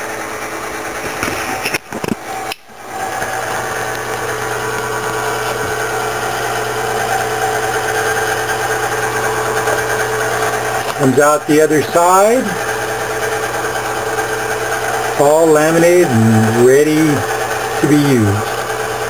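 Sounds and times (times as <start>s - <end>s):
laminator motor hum: 0.0s - 19.0s.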